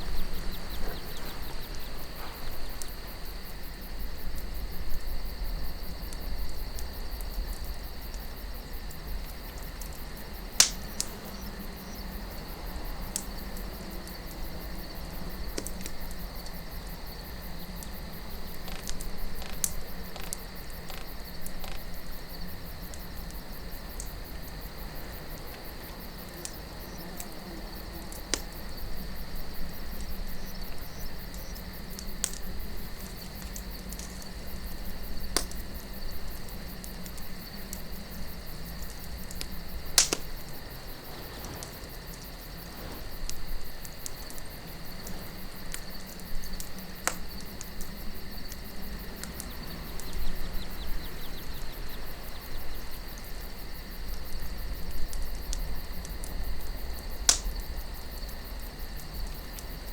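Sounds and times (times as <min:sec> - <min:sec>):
campfire crackling and popping: 0:00.0 - 0:59.9
cricket trill: 0:00.0 - 0:59.9
low wind rumble: 0:00.0 - 0:59.9.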